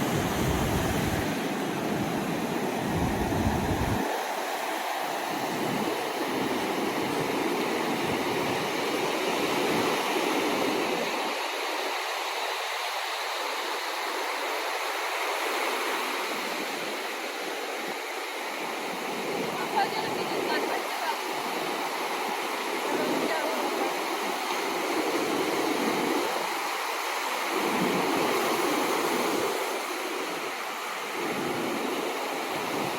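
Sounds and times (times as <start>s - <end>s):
ocean surf washing ashore: 0.0s - 32.9s.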